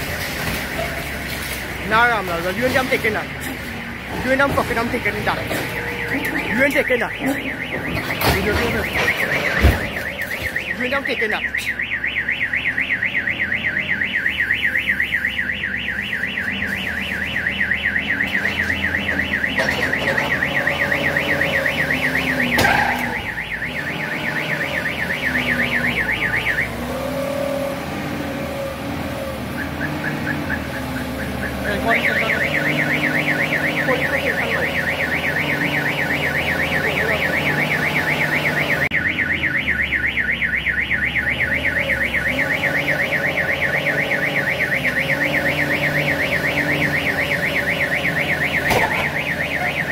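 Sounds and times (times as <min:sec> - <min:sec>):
car alarm warbling: 0:00.0 - 0:27.8, 0:28.5 - 0:49.9.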